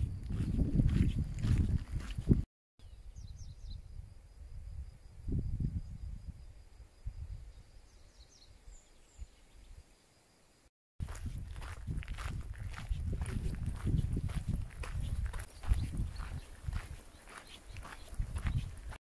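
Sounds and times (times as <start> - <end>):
wind rumble on microphone: 0.0 - 9.8, 11.0 - 19.0.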